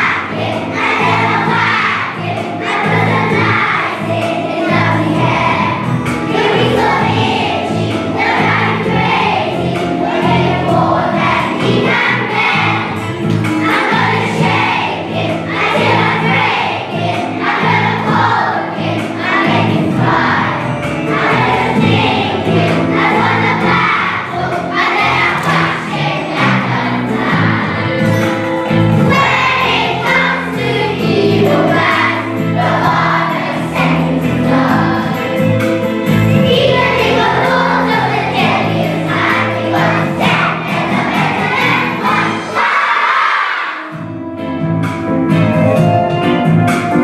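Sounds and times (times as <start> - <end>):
group of voices singing: 0.0 - 44.0
instrumental accompaniment: 0.0 - 47.0.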